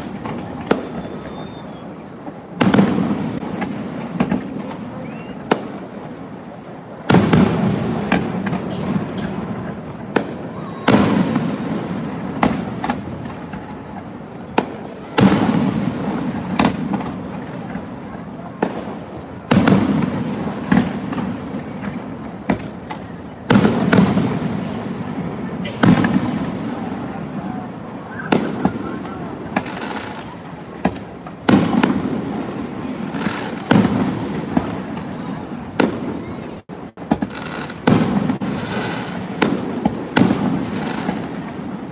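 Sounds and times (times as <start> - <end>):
firework booms: 0.0 - 41.9
firework cracks: 0.0 - 41.9.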